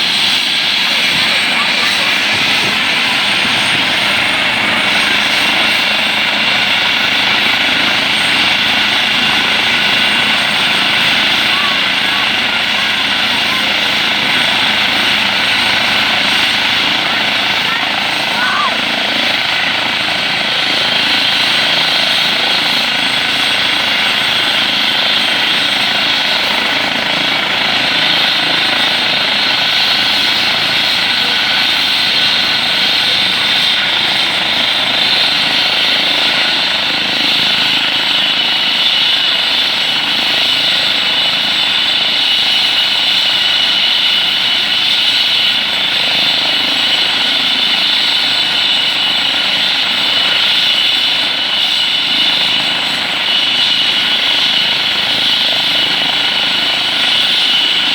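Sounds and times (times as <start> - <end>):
helicopter turbine and rotors: 0.0 - 57.9.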